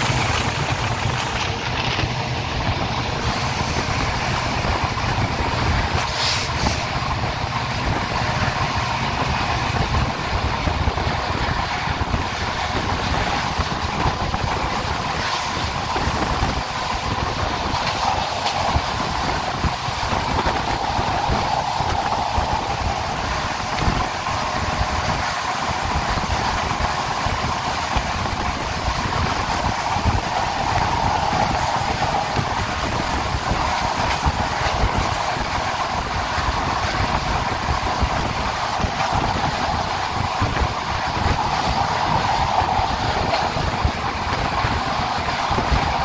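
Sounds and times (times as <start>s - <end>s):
train wheels roaring on rails: 0.0s - 46.0s.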